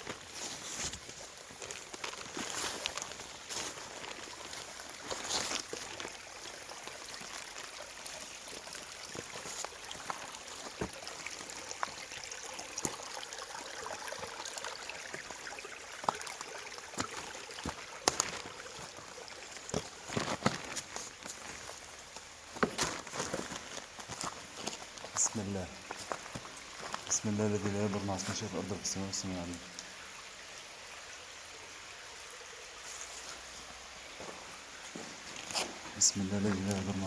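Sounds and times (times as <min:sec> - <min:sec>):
stream trickling over stones: 0:00.0 - 0:37.0.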